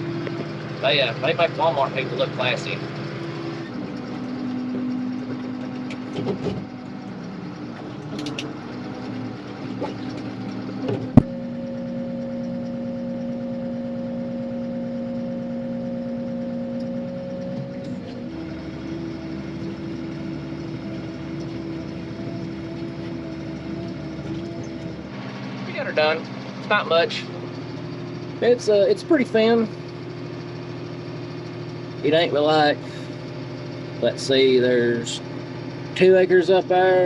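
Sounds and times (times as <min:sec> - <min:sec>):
tractor engine running: 0:00.0 - 0:37.0.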